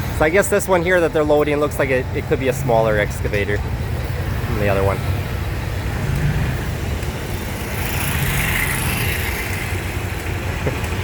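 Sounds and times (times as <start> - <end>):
heavy vehicle engine rumbling: 0.0 - 11.0
street traffic noise: 0.0 - 11.0.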